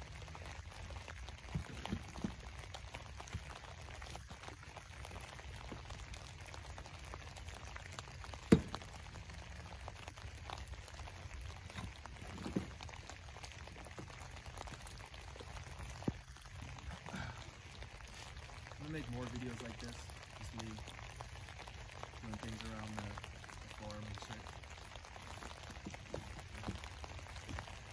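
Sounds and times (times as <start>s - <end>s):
soil crackling: 0.0s - 27.9s.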